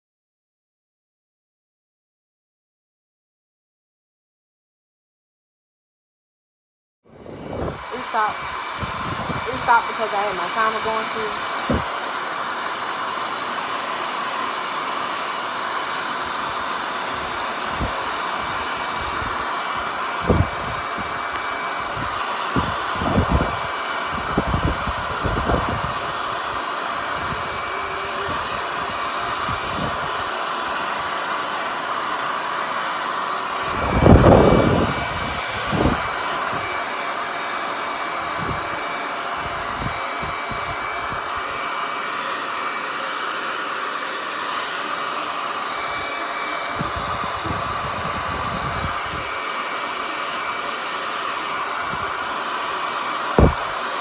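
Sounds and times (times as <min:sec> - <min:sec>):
hair dryer blowing: 0:07.1 - 0:54.0.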